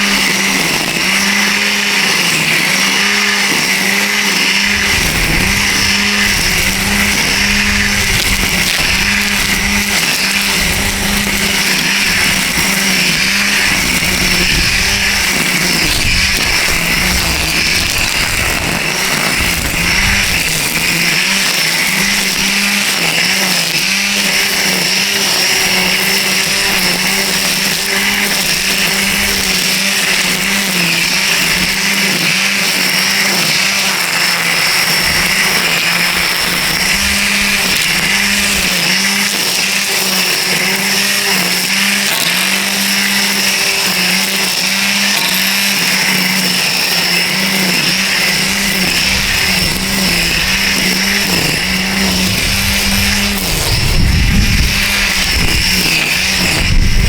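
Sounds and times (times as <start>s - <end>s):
string trimmer cutting weeds: 0.0s - 57.0s.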